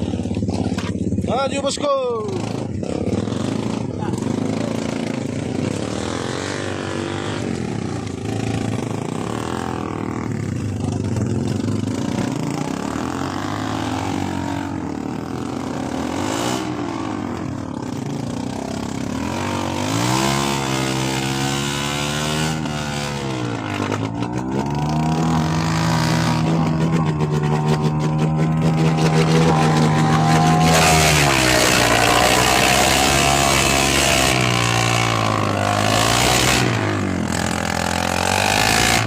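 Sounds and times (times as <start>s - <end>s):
vehicle engine revving: 2.2s - 39.0s.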